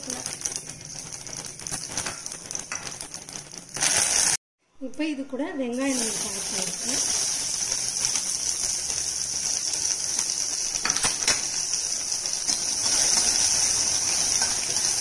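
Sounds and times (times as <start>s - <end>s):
onions sizzling in hot oil: 0.0s - 4.4s, 5.6s - 15.0s.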